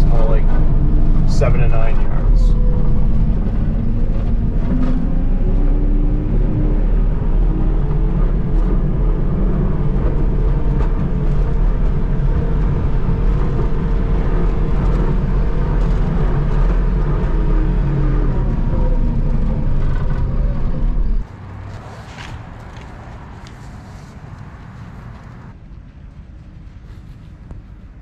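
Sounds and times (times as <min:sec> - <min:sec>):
diesel engine running: 0:00.0 - 0:25.5.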